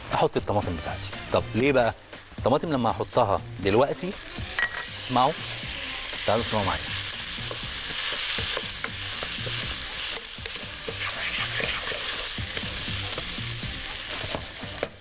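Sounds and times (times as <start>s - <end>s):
tomatoes sizzling in hot oil: 0.1s - 15.0s.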